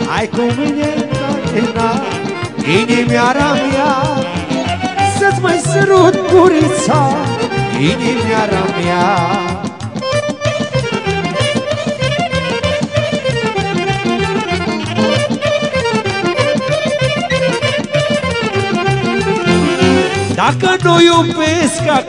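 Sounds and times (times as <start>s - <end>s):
folk band playing melody: 0.0s - 22.0s.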